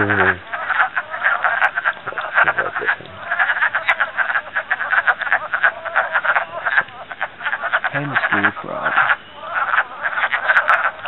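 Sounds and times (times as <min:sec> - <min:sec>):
chorus of frogs croaking: 0:00.0 - 0:11.0.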